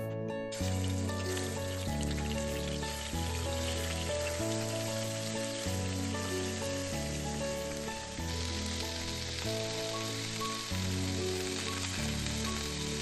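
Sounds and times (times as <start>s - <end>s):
food sizzling in a pan: 0.5s - 13.0s.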